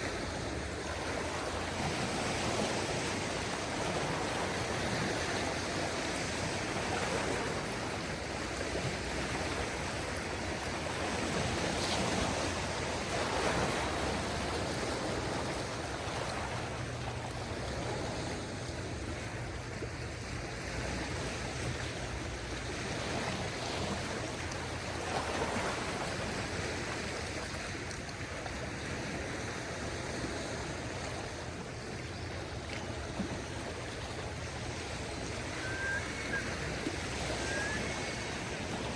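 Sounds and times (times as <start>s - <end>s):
small waves washing onto shore: 0.0s - 38.9s.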